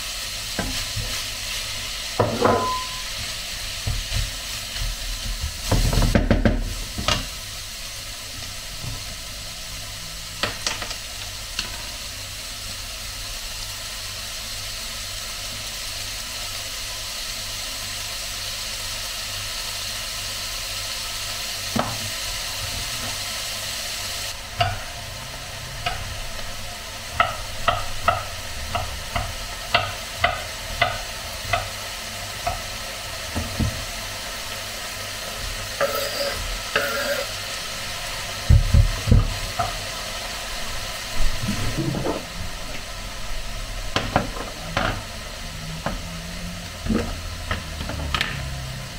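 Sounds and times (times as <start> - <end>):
meat sizzling in a frying pan: 0.0 - 48.9.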